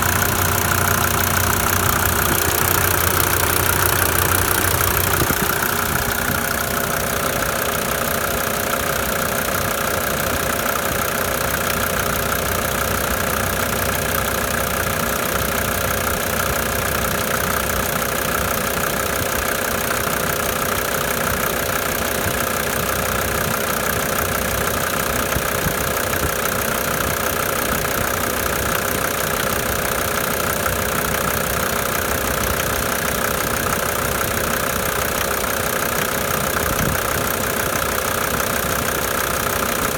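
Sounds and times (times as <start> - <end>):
diesel engine idling unevenly: 0.0 - 39.9
engine knocking clatter: 0.0 - 39.9.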